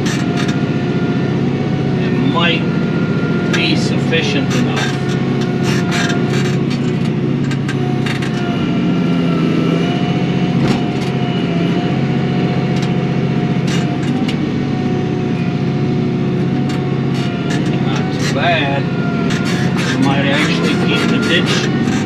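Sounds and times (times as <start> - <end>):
steady whine: 0.0 - 22.0
tractor diesel engine under load: 0.0 - 22.0.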